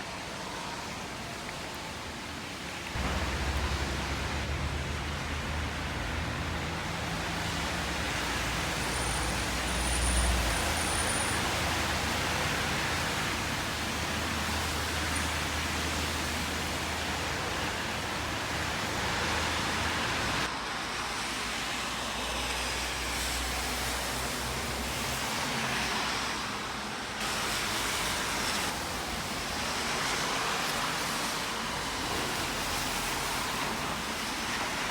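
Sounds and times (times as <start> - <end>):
road traffic rushing: 0.1 - 34.9.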